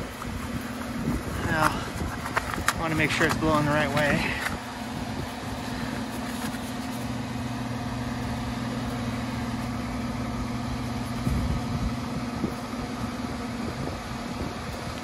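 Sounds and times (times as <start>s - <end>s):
blower fan humming: 0.0s - 15.0s.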